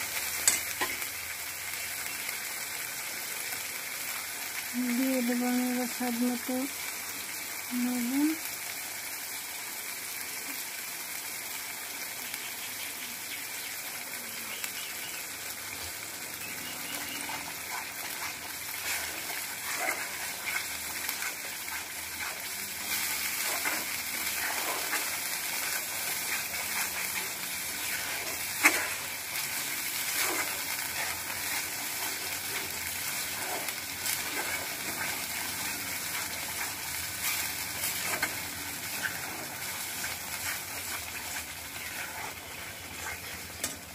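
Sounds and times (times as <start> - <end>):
paste sizzling in oil: 0.0 - 43.9.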